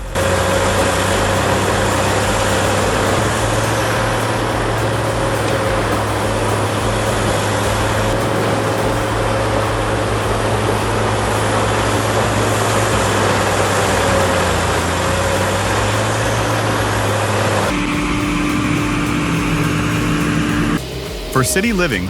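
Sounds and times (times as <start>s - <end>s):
machine with higher hum: 0.0s - 21.5s.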